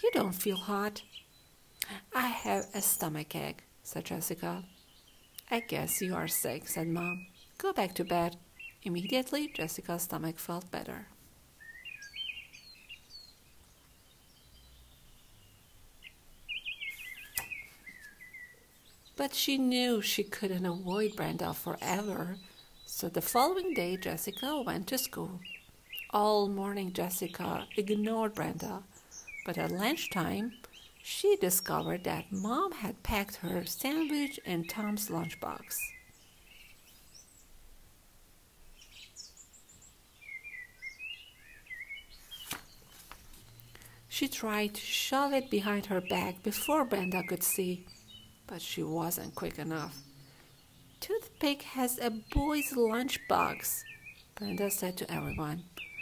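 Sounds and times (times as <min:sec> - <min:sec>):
birds chirping: 0:00.0 - 0:56.0
low background hiss: 0:00.0 - 0:56.0.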